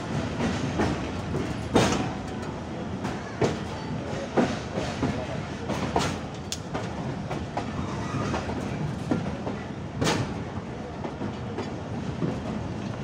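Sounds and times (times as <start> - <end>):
wheels clacking over rail joints: 0.0 - 10.5
train rumble: 0.0 - 13.0.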